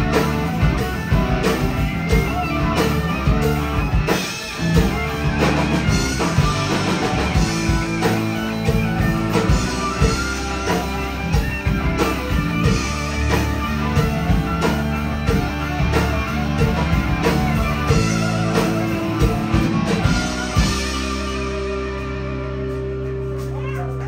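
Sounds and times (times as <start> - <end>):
drum kit steady beat: 0.0 - 24.0
electric bass: 0.0 - 24.0
electric guitars: 0.0 - 24.0.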